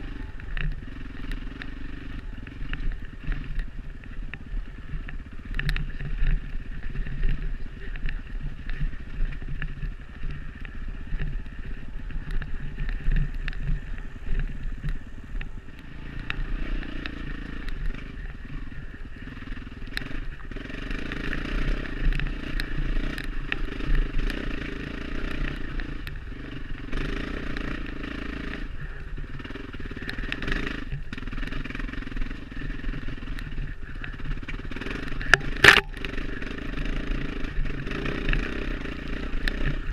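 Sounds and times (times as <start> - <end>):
dirt bike engine revving: 0.0 - 39.9
clicks and clatter: 0.3 - 18.5, 19.8 - 39.9.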